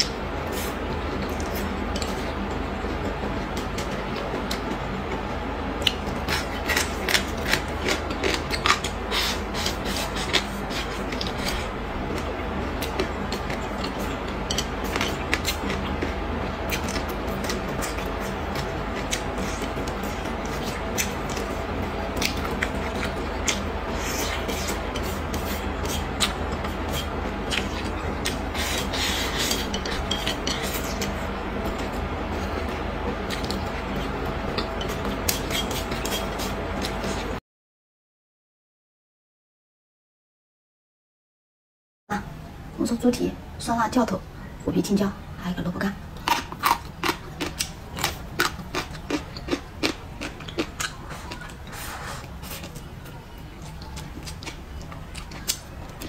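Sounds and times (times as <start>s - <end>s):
person chewing food: 0.0s - 37.4s, 46.2s - 56.0s
steady low hum: 0.0s - 37.4s, 42.1s - 56.0s.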